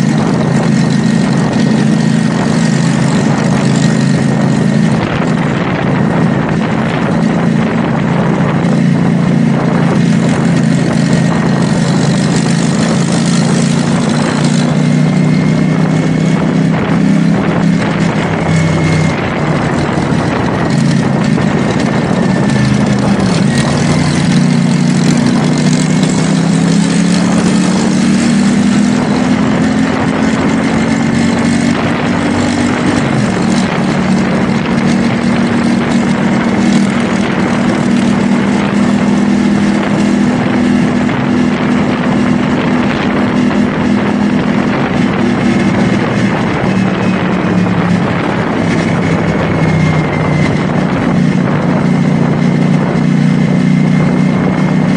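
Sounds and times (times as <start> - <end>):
motorcycle engine running: 0.0 - 54.9
road noise: 0.0 - 54.9
wind rushing: 0.0 - 54.9.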